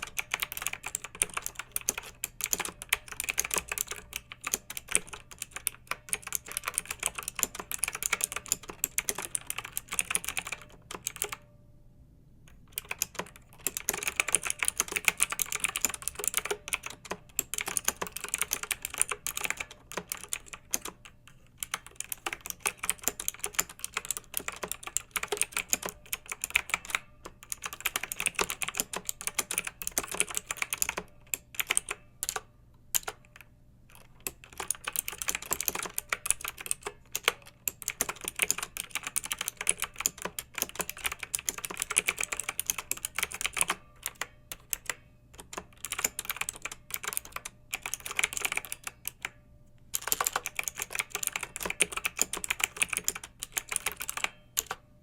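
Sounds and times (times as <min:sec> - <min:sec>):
mechanical keyboard typing: 0:00.0 - 0:11.5, 0:12.5 - 0:54.8.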